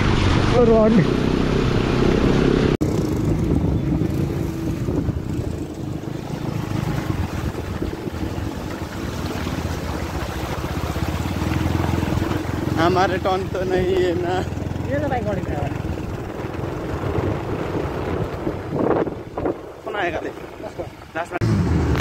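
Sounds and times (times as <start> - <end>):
water splashing around wheels: 0.0 - 22.0
motorcycle engine running: 0.8 - 22.0
wind buffeting microphone: 2.8 - 21.2.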